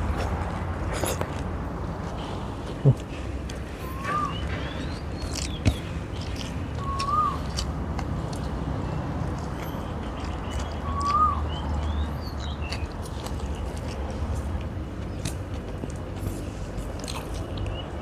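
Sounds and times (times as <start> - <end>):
chewing and mouth clicks: 0.0 - 18.0.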